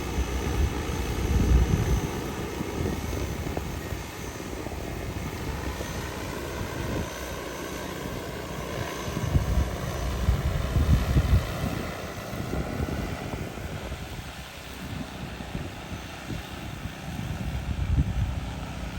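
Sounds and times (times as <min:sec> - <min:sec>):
drone rotors whirring: 0:00.0 - 0:18.9.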